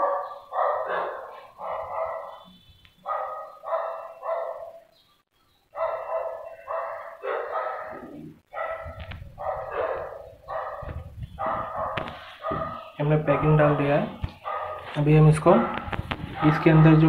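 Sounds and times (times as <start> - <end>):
dog barking: 0.0 - 4.9, 5.7 - 17.0.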